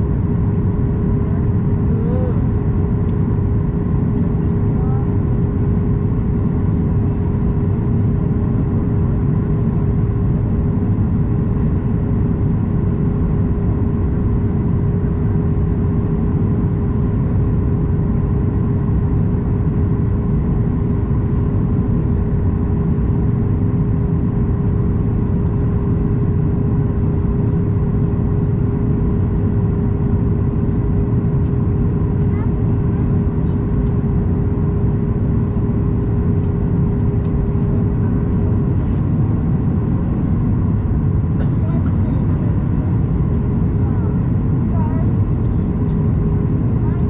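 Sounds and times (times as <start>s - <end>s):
jet cabin engine rumble: 0.0s - 47.0s.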